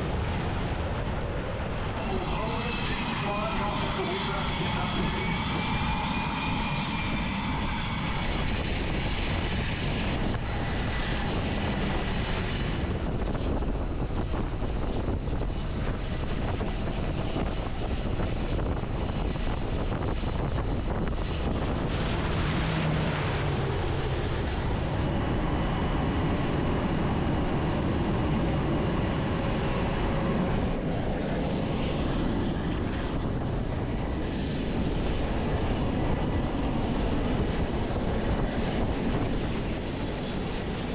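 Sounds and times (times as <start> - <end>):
aircraft engines running: 0.0 - 40.9
faint high whine: 1.9 - 40.7.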